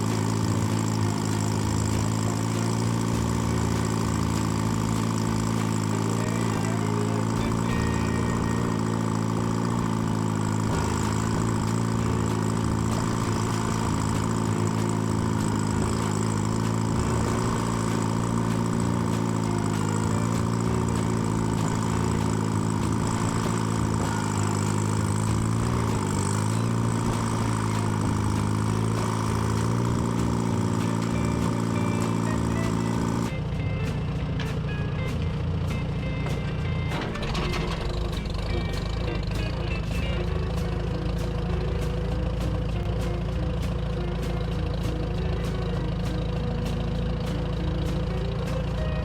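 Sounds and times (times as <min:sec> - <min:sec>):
tractor engine idling: 0:00.0 - 0:49.0.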